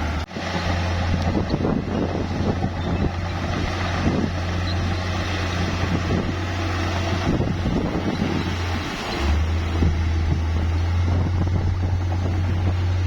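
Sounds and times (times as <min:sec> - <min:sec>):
bulldozer diesel engine drone: 0:00.0 - 0:13.0.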